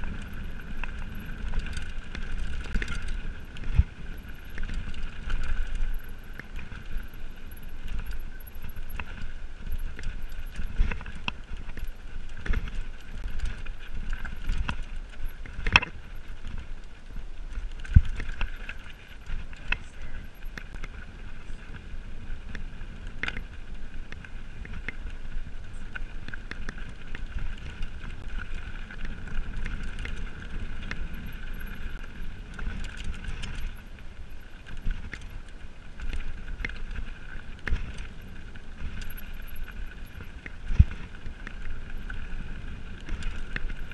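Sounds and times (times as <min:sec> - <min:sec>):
bike knocking and rattling on rocks: 0:00.0 - 0:43.9
bike tyres on dirt and stones: 0:00.0 - 0:43.9.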